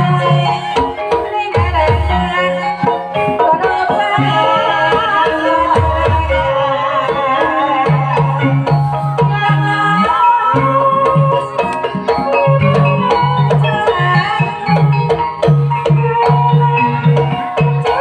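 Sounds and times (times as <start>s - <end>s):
hand drums beating a rhythm: 0.0s - 18.0s
ringing metallophone tones: 0.0s - 18.0s
wavering melody line: 0.0s - 18.0s.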